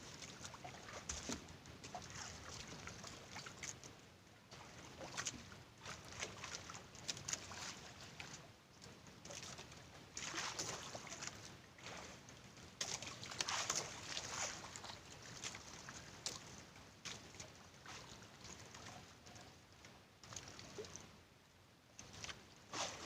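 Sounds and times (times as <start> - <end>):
water splashing around boat: 0.0 - 23.0.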